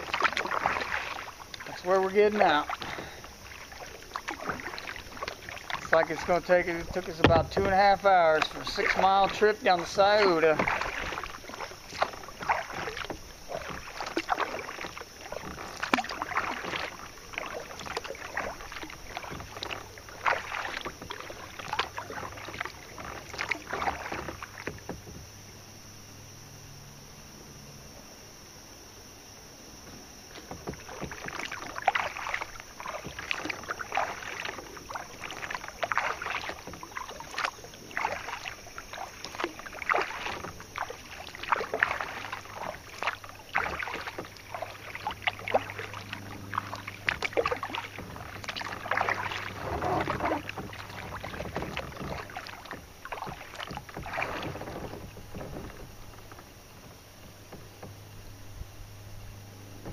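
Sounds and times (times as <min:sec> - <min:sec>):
paddle splashing in water: 0:00.0 - 0:25.6, 0:29.9 - 0:59.9.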